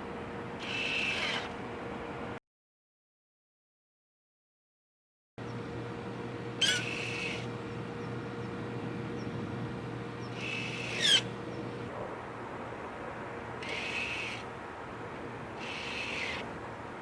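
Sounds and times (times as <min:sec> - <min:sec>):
steady low hum: 0:00.0 - 0:02.4, 0:05.4 - 0:17.0.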